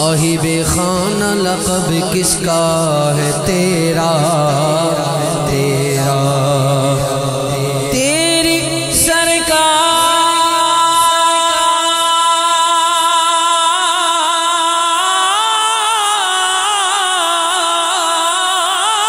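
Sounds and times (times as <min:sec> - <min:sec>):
man singing in a high voice: 0:00.0 - 0:19.0.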